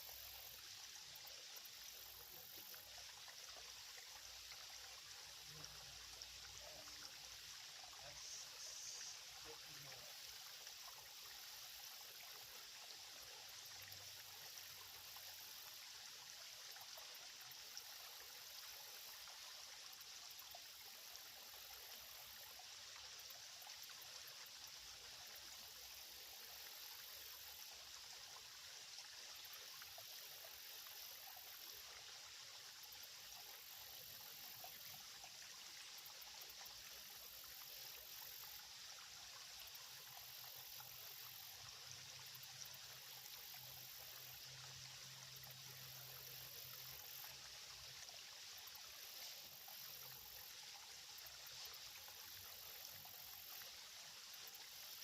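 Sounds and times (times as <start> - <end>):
creek trickling: 0.0 - 55.0.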